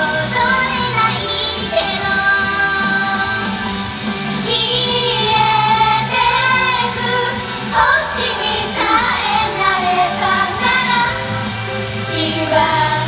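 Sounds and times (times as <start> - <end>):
pop backing track with bass: 0.0 - 13.0
women singing pop song: 0.0 - 13.0.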